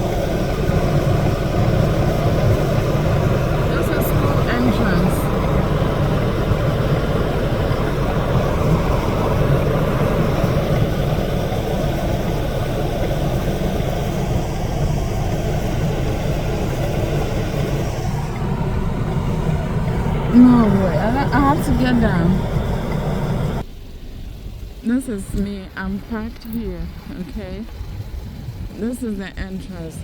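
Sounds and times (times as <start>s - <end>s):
car engine and road noise inside cabin: 0.0s - 30.0s.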